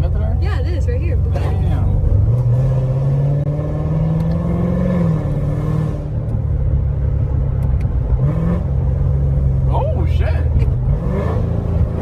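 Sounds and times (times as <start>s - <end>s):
sports car engine accelerating: 0.0s - 12.0s.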